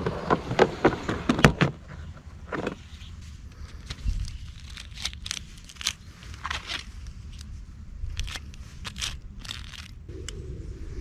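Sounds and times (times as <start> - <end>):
steady low rumble: 2.1 - 11.0.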